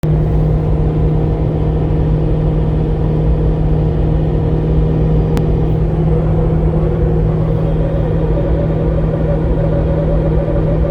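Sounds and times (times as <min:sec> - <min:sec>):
car road rumble: 0:00.0 - 0:10.9
low-pitched hum: 0:00.0 - 0:10.9.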